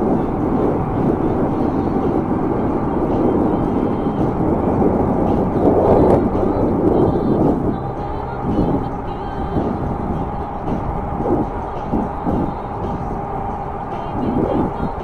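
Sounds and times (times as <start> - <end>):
highway traffic: 0.0 - 15.0
wind buffeting microphone: 0.0 - 15.0.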